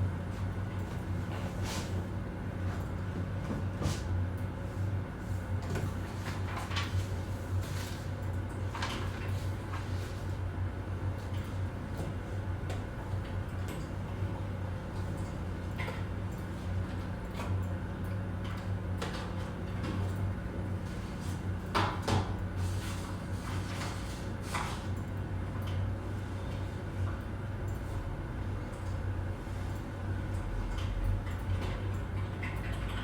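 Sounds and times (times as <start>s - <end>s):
low office hum: 0.0s - 33.0s.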